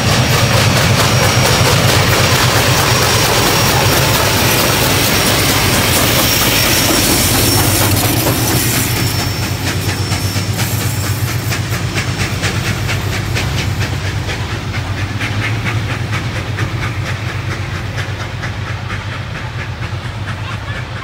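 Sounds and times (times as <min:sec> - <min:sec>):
diesel locomotive engine drone: 0:00.0 - 0:21.0
train rumble: 0:00.0 - 0:21.0.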